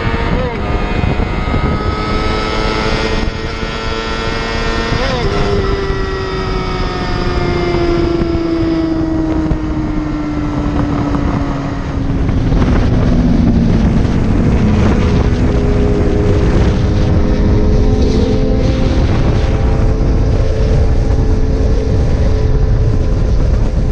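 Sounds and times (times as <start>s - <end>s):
motorcycle engine at speed: 0.0s - 23.9s
wind rush on microphone: 0.0s - 23.9s.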